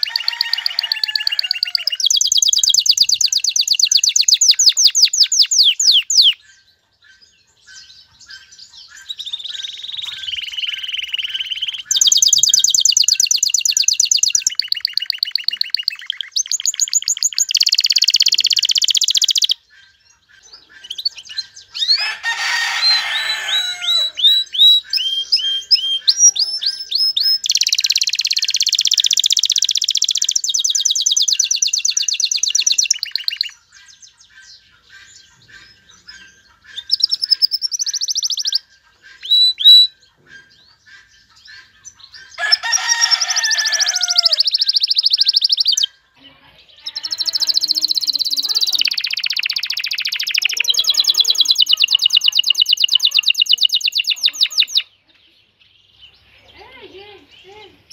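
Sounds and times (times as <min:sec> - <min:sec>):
canary chirps: 0:00.0 - 0:57.9
canary singing trills: 0:00.0 - 0:57.9.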